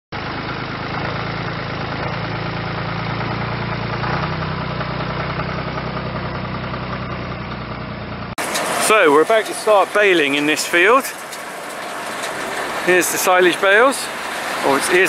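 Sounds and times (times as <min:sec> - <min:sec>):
tractor engine idling: 0:00.2 - 0:15.0.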